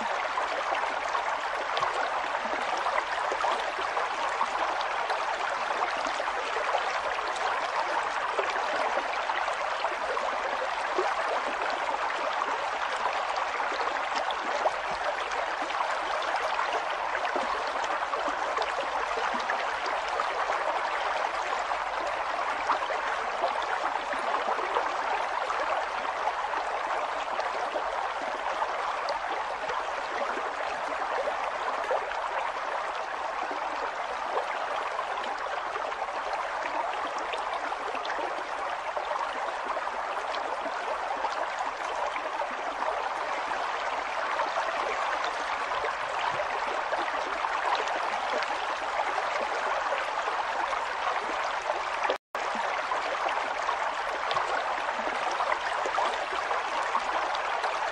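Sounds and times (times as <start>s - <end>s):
river water rushing and gurgling: 0.0s - 57.9s.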